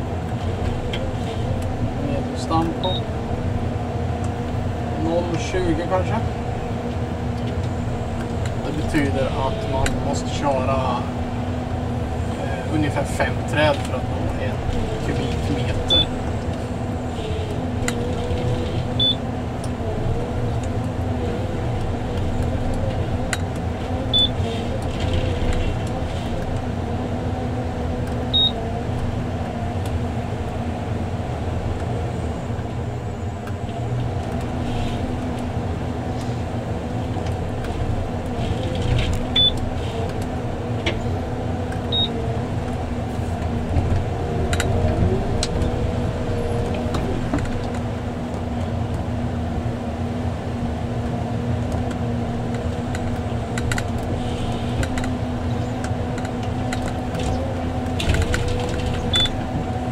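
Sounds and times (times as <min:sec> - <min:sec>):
diesel engine and hydraulics running: 0:00.0 - 0:59.9.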